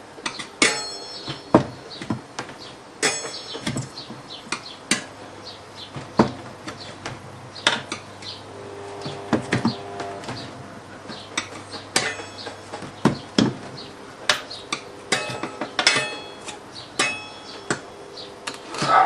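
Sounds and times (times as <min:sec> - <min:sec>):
tyre levers clinking on metal rim: 0:00.2 - 0:08.4, 0:09.1 - 0:19.0.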